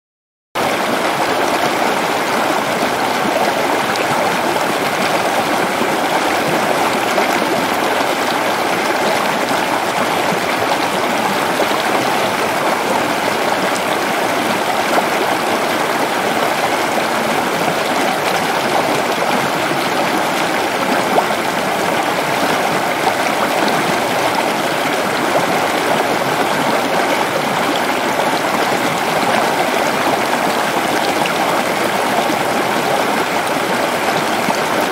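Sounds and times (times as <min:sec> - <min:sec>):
stream rushing over rocks: 0:00.6 - 0:34.9.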